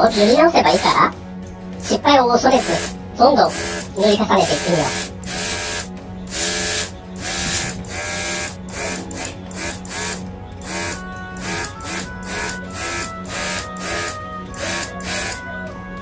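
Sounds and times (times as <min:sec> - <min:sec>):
airbrush spraying hiss: 0:00.0 - 0:01.0, 0:01.8 - 0:15.4
airbrush compressor humming: 0:00.0 - 0:01.1, 0:01.8 - 0:15.6
background music with beat: 0:00.0 - 0:16.0.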